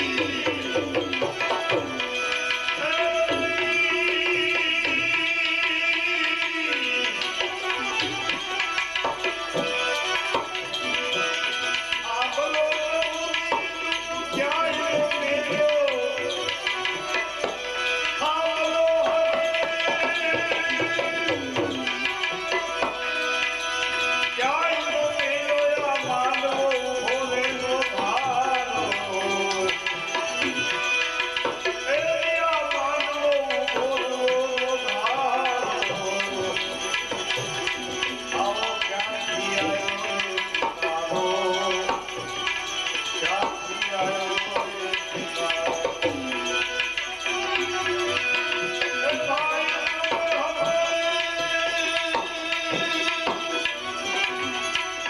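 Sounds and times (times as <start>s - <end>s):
devotional melody: 0.0s - 55.0s
tabla rhythm: 0.0s - 55.0s.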